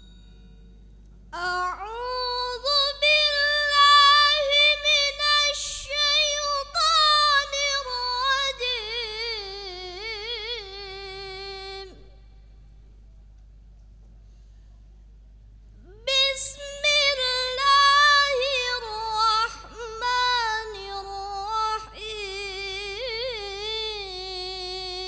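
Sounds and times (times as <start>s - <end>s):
boy reciting melodically: 1.4s - 12.5s, 15.9s - 25.0s.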